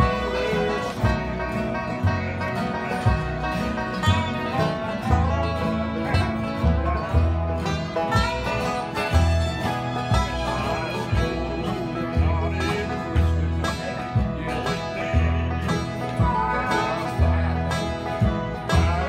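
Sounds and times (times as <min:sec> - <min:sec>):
bowed fiddle: 0:00.0 - 0:19.0
resonator guitar: 0:00.0 - 0:19.0
strummed acoustic guitars: 0:00.0 - 0:19.0.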